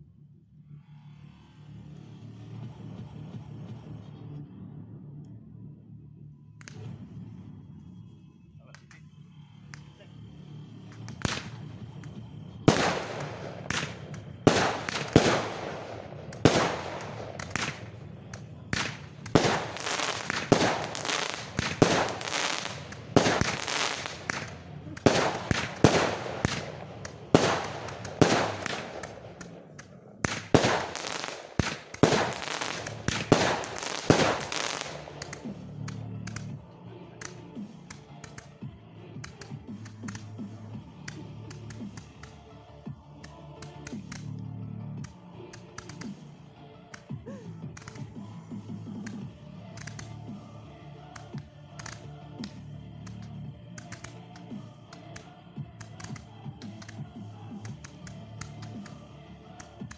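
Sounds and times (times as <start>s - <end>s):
fireworks bursting: 8.8s - 44.4s, 45.0s - 59.9s.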